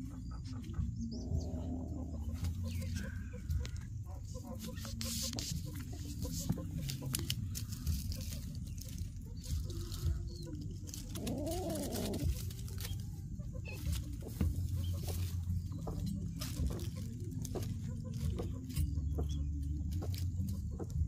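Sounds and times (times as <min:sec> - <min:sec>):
chickens clucking: 0:00.0 - 0:21.0
steady low rumble: 0:00.0 - 0:21.0.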